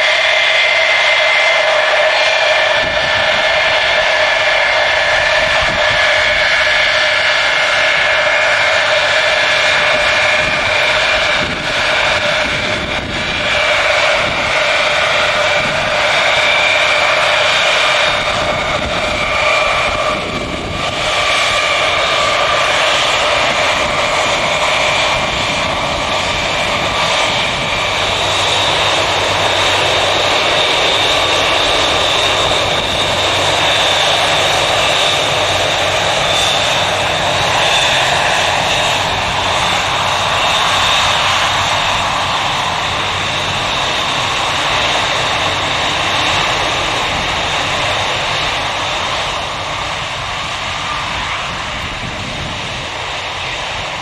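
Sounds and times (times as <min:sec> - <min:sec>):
jet engines screaming whine: 0:00.0 - 0:54.0.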